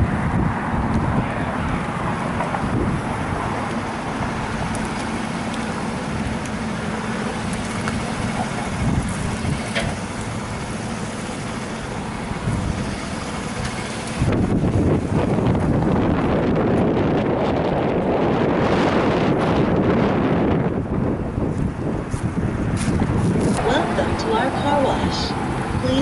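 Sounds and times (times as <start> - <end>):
idling engines and road traffic: 0.0 - 26.0
wind on microphone: 0.0 - 26.0.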